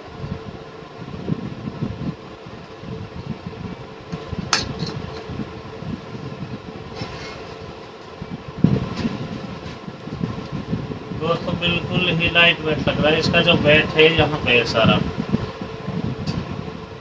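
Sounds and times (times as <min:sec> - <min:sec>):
background rumble and hum: 0:00.0 - 0:17.0.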